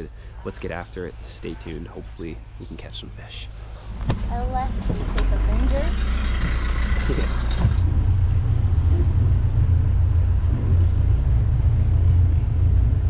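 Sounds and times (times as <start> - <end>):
tractor engine rumbling: 0.0 - 13.0.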